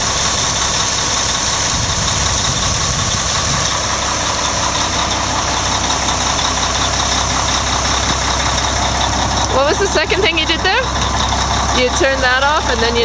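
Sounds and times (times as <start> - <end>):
fire truck engine running: 0.0 - 13.0.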